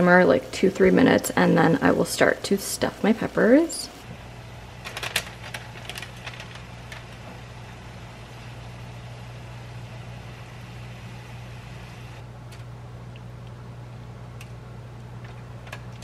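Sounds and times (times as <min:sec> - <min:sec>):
low mechanical hum and hiss: 0:00.0 - 0:16.0.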